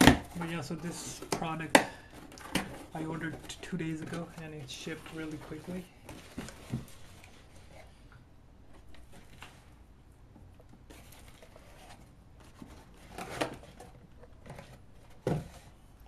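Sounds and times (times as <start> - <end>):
cardboard and paper rustling: 0.0 - 8.0, 8.7 - 9.8, 10.7 - 16.0.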